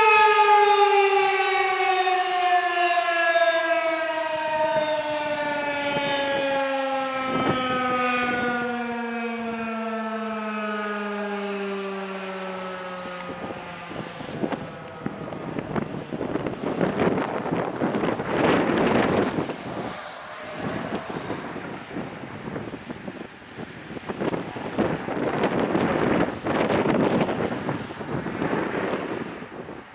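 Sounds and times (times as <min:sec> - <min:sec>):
warning siren winding down: 0:00.0 - 0:29.0
wind gusts on microphone: 0:00.1 - 0:29.9.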